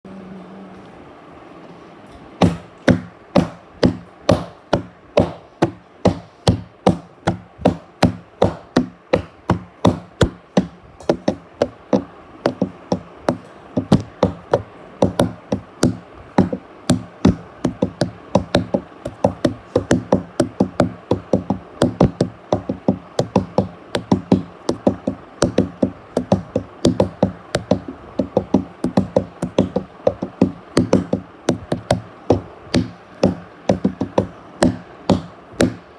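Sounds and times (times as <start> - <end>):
steady low hum: 0.0 - 35.9
sharp regular banging knocks: 2.4 - 35.9.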